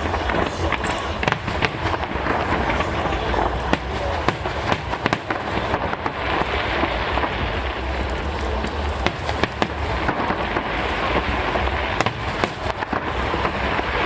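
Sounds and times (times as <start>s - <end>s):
fireworks crackling: 0.0s - 14.0s
fireworks cracks and pops: 0.0s - 14.0s.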